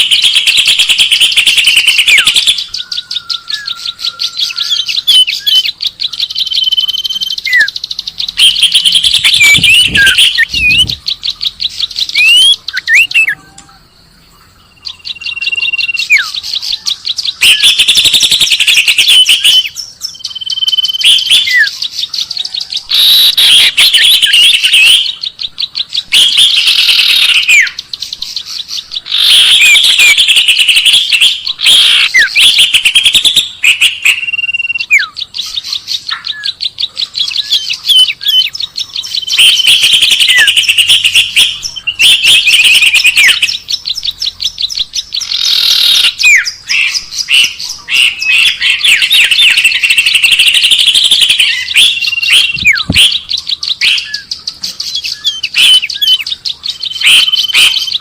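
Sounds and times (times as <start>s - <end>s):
bird chirping and trilling: 0.0s - 58.0s.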